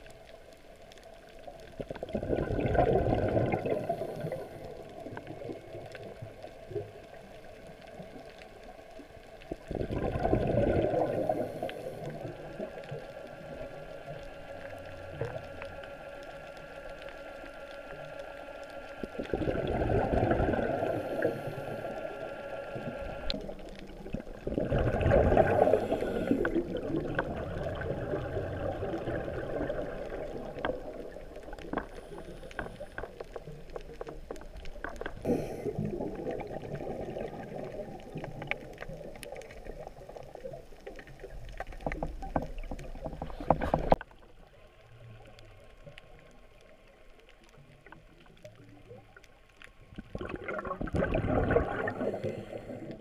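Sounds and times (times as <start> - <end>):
muffled underwater rushing: 0.0 - 53.0.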